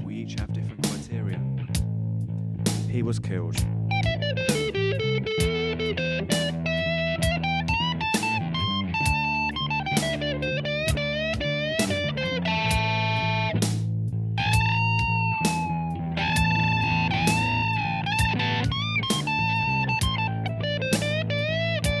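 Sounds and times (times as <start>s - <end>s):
guitar slow bending melody: 0.0s - 22.0s.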